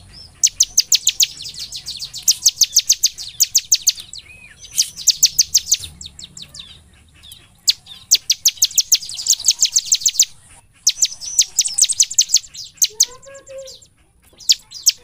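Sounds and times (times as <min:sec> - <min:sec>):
bird singing rapid high notes: 0:00.0 - 0:15.0.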